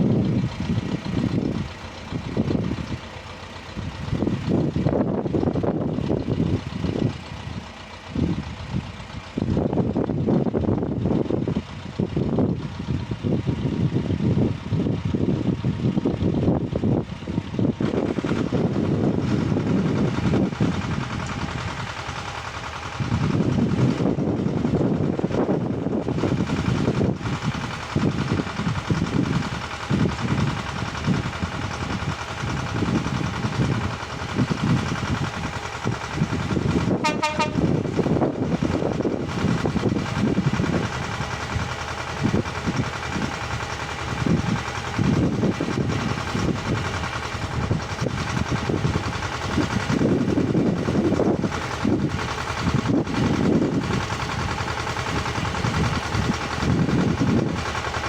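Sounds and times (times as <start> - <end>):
petrol cultivator engine running: 0.0 - 58.0.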